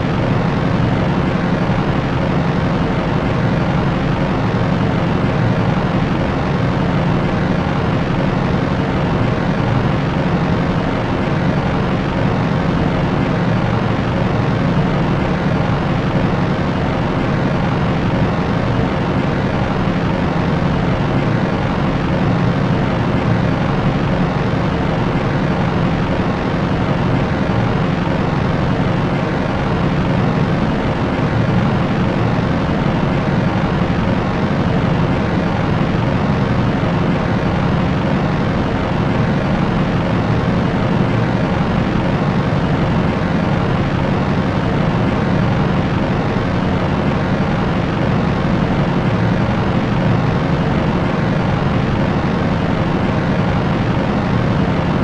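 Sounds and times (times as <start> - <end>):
propeller aircraft droning: 0.0 - 55.0.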